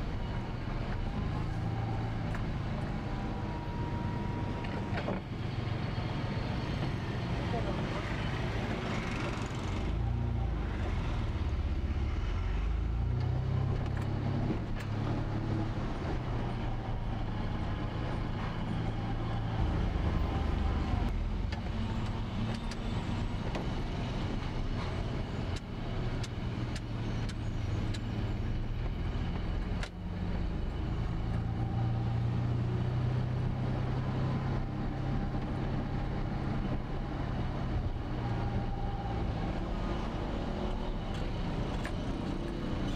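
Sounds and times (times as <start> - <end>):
car engine and road hum: 0.0 - 42.9.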